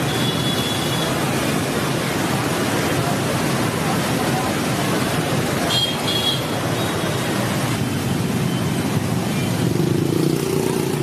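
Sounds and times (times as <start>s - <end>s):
dense street traffic: 0.0s - 11.0s.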